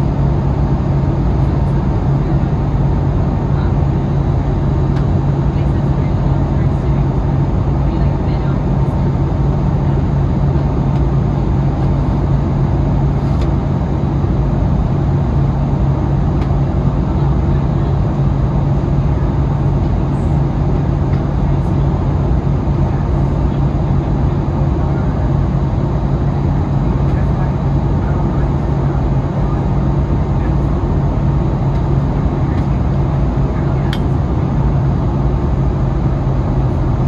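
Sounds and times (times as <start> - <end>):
airliner cabin engine noise: 0.0 - 37.0.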